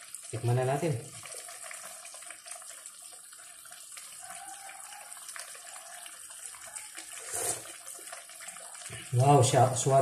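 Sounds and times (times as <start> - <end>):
broth bubbling: 0.0 - 10.0.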